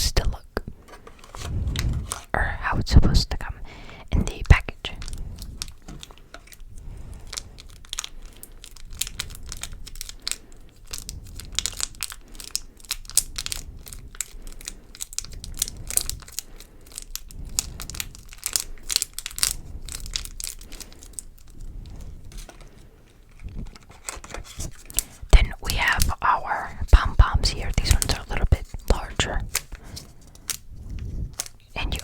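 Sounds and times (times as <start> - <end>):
plastic packaging crinkling: 4.2 - 32.0.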